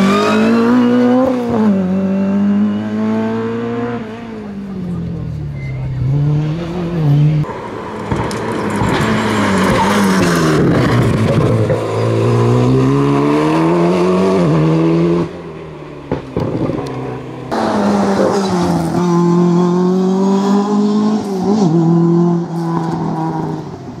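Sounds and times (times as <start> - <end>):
rally car engine accelerating: 0.0 - 23.8.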